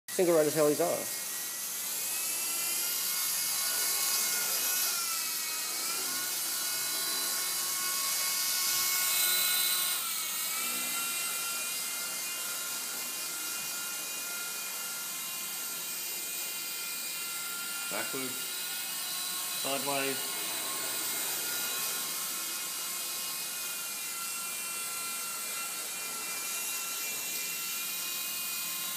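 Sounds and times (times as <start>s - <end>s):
rc helicopter motor whine: 0.2s - 28.9s.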